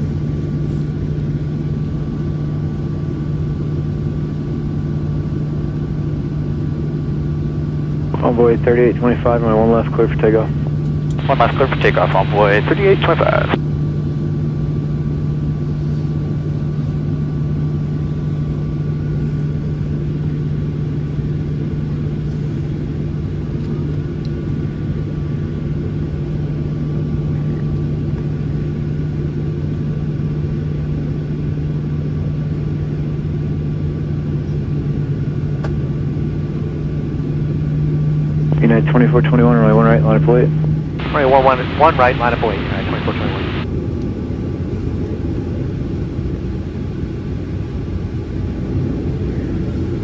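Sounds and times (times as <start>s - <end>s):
jet engines idling in cabin: 0.0s - 13.6s, 14.8s - 43.6s.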